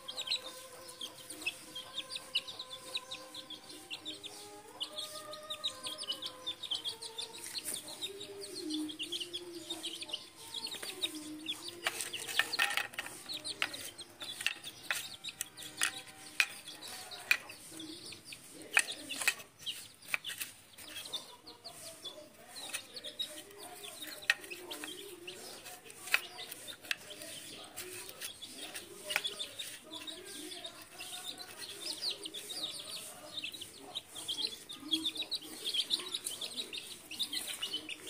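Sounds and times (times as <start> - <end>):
beaks pecking on tiled floor: 0.0 - 38.0
chicks peeping: 0.0 - 38.0
hen clucking: 0.0 - 38.0.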